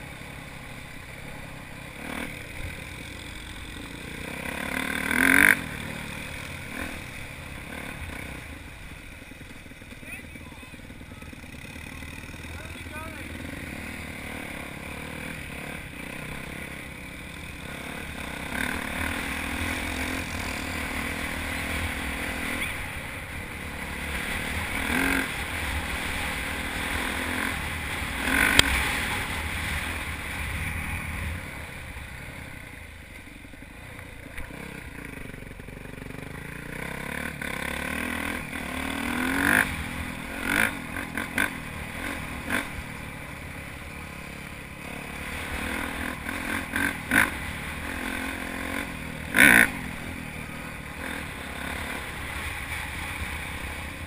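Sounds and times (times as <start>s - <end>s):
motorbike engine revving: 0.0s - 33.0s, 34.0s - 54.0s.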